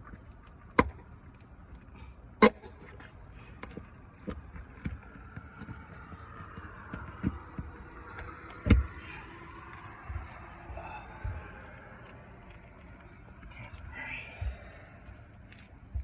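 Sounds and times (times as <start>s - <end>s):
faint traffic hum: 0.0s - 16.0s.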